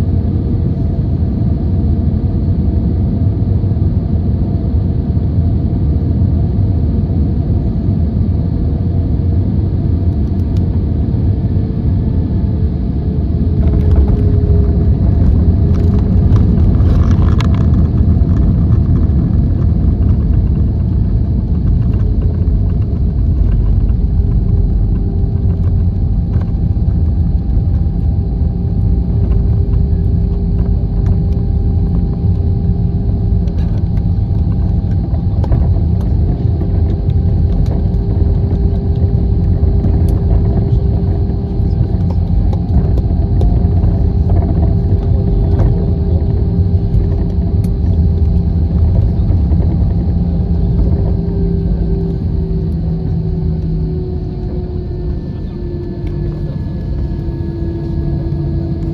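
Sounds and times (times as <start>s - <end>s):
jet engines rumbling: 0.0s - 58.9s
jet engine tone: 9.3s - 58.9s.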